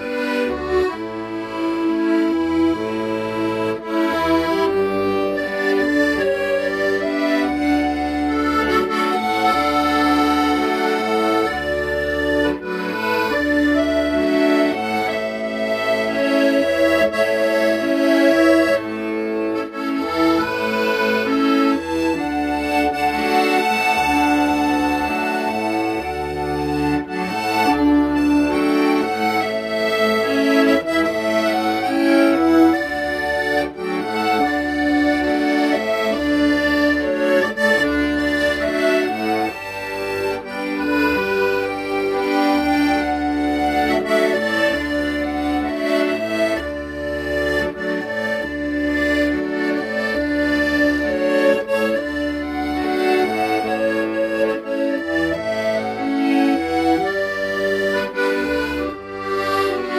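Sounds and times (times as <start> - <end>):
accordion playing slow melody: 0.0 - 59.9.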